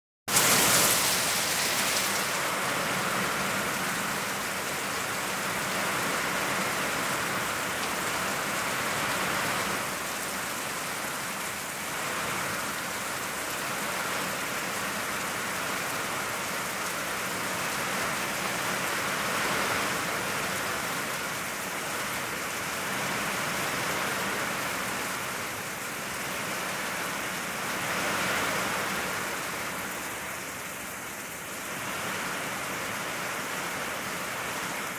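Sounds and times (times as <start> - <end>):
heavy rain: 0.3 - 34.9.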